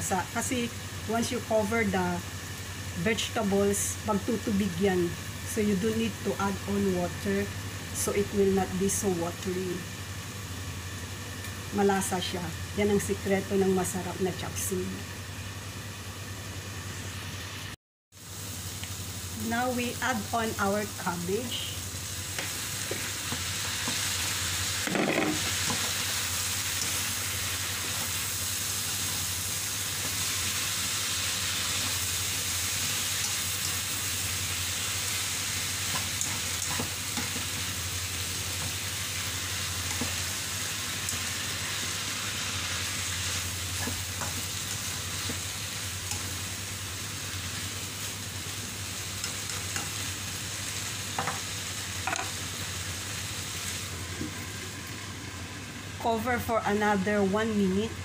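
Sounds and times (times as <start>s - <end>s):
vegetables sizzling in a wok: 0.0s - 58.0s.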